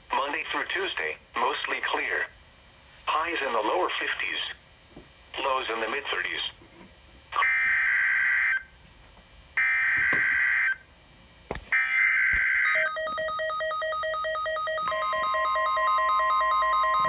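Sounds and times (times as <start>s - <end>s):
steady warning alarm tone: 0.2s - 17.0s.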